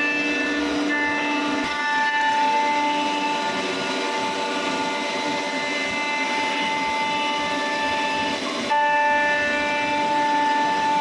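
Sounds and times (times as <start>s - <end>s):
bit cutting wood: 0.0s - 11.0s
router spindle high whine: 0.0s - 11.0s.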